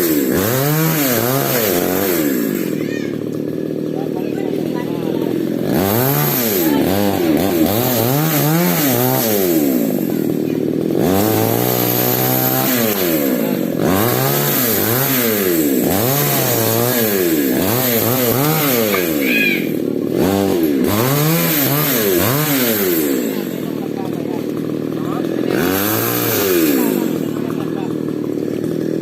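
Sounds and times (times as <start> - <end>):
chainsaw engine revving: 0.0 - 29.0.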